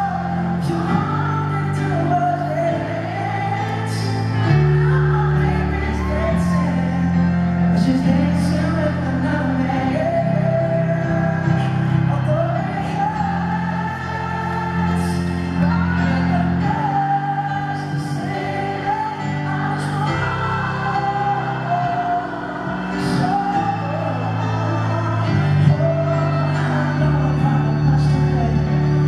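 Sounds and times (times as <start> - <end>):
man singing soul ballad: 0.0 - 29.0
piano chords: 0.0 - 29.0.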